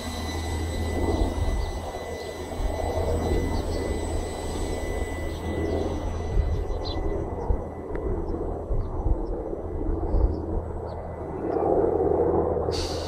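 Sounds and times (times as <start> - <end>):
low rumble: 0.0 - 13.0
quadcopter propellers buzzing: 0.0 - 13.0.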